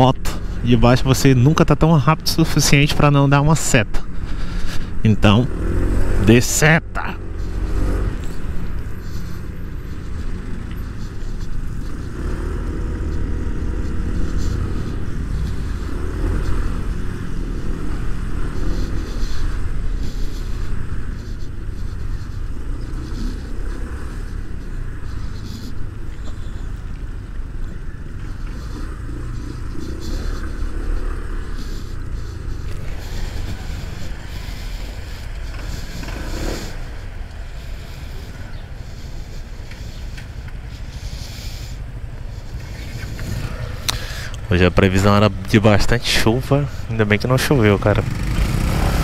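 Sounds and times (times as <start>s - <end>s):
scooter road noise: 0.0s - 49.0s.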